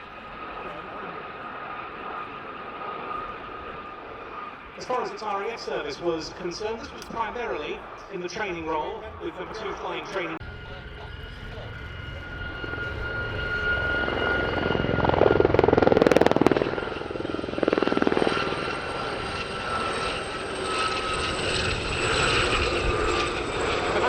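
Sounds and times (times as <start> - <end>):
helicopter rotor chop: 0.0 - 24.0
helicopter turbine whine: 0.0 - 24.0.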